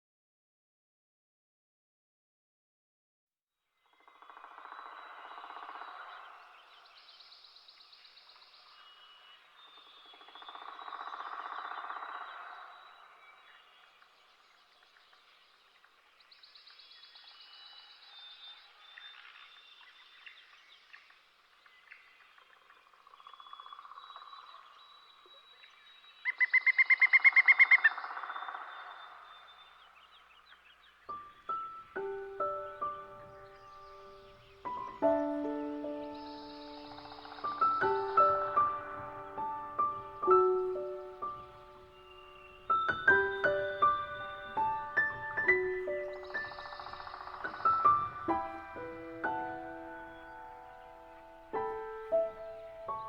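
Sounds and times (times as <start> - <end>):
birds chirping: 3.9 - 53.0.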